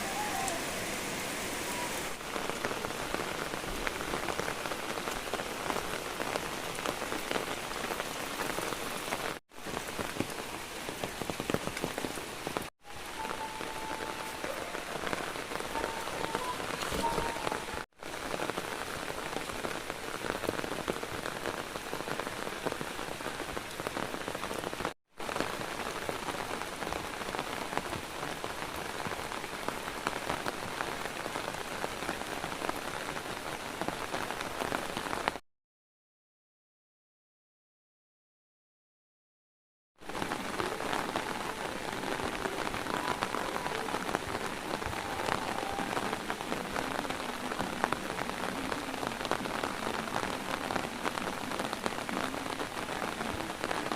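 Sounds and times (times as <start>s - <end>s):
rain patter: 0.0s - 35.4s, 40.0s - 53.9s.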